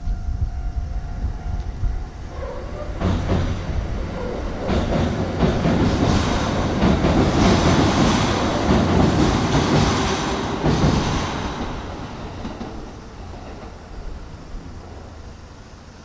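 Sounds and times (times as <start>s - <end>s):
electric train passing: 0.0s - 16.0s
wheels clacking over rail joints: 2.3s - 15.3s.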